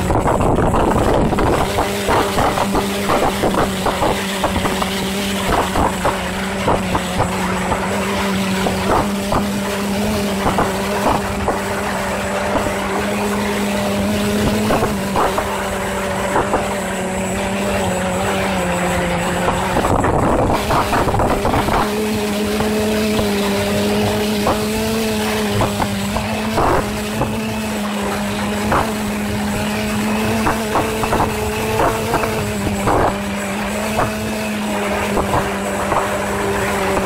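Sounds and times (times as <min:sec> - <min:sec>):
steady engine drone: 0:00.0 - 0:37.0.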